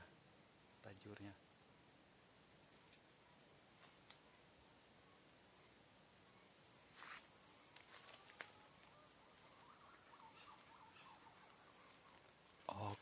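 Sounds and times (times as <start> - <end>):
insects droning: 0.0 - 13.0
faint chirps: 2.3 - 13.0.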